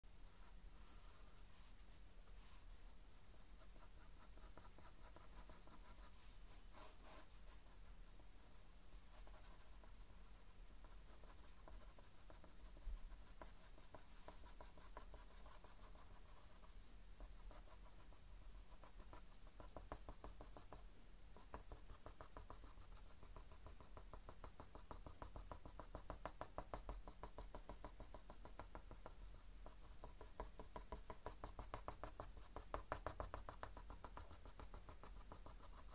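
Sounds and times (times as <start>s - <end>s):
pencil scratching on paper: 0.4s - 7.8s, 8.4s - 10.0s, 10.8s - 18.0s, 18.6s - 20.8s, 21.4s - 35.9s.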